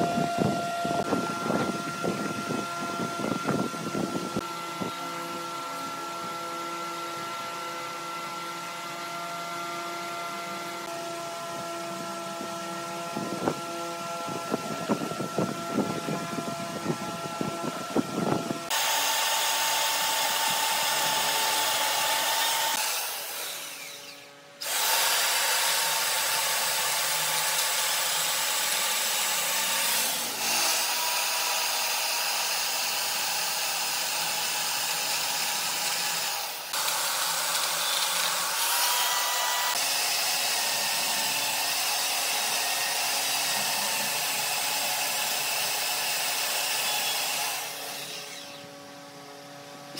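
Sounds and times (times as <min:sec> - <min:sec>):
power tool grinding wood: 0:00.0 - 0:49.9.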